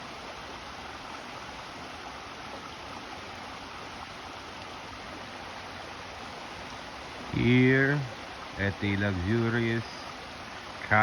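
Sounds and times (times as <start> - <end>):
waterfall and river rushing: 0.0 - 11.0.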